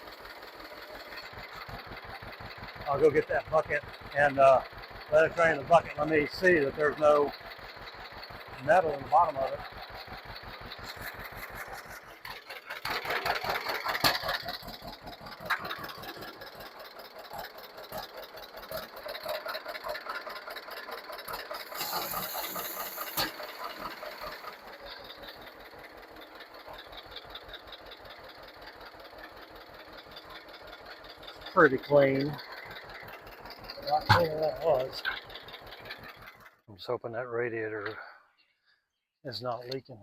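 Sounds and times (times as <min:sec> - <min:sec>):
tractor engine idling with popping beat: 0:00.0 - 0:36.9, 0:37.8 - 0:38.4, 0:39.3 - 0:40.0.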